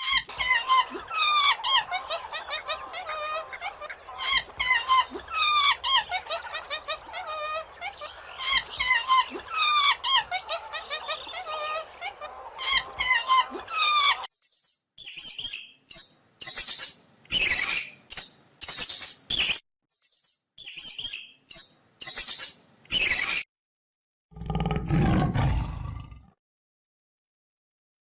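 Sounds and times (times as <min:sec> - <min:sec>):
birds chirping and warbling: 0:00.0 - 0:23.5.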